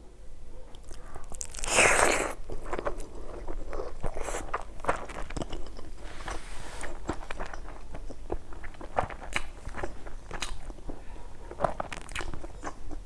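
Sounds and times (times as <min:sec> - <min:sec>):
chewing with wet mouth clicks: 0:00.7 - 0:06.0, 0:07.0 - 0:13.0.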